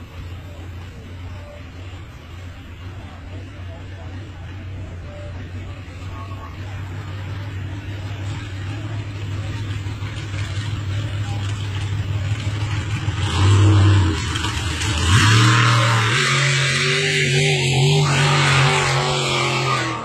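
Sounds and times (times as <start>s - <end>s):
boat engine revving: 0.0s - 20.0s.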